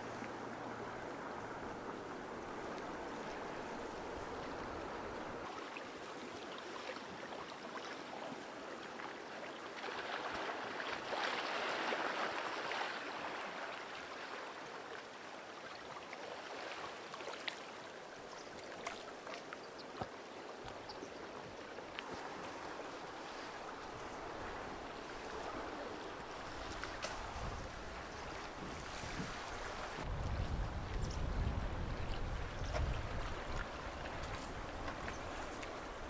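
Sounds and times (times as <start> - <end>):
river water rushing: 0.0 - 18.3, 20.1 - 30.1, 33.0 - 36.0.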